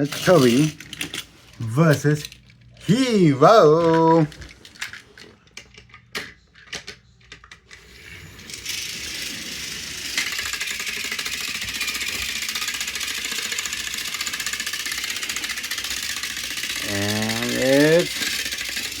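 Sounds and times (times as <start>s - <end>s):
toy train motors whirring: 0.0s - 19.0s.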